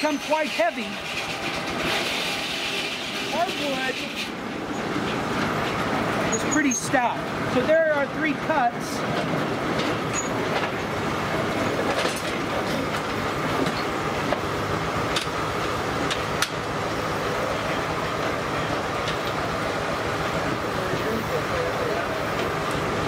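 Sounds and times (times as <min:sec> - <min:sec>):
sawmill mechanical rumble: 0:00.0 - 0:23.0.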